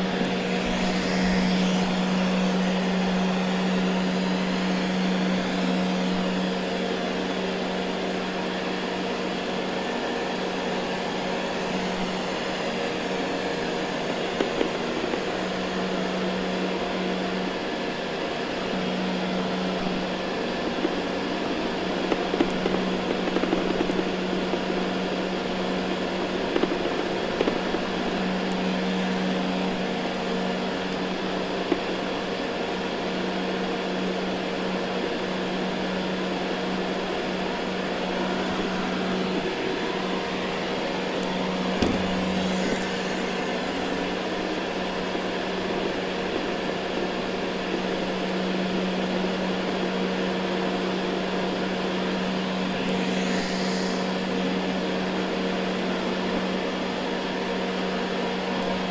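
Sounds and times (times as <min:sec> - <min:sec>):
robot vacuum running on carpet: 0:00.0 - 0:58.9.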